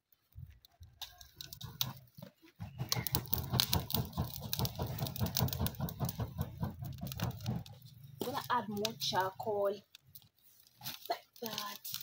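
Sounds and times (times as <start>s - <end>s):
fire crackling: 0.0s - 12.0s.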